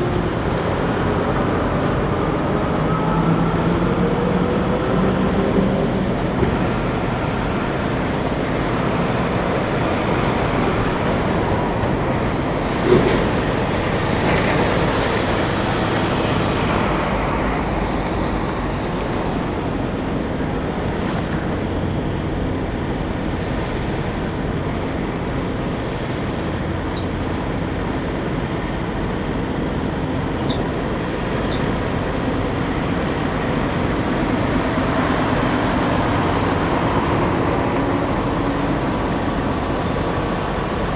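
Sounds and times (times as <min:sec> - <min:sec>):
trucks and traffic passing: 0:00.0 - 0:40.9.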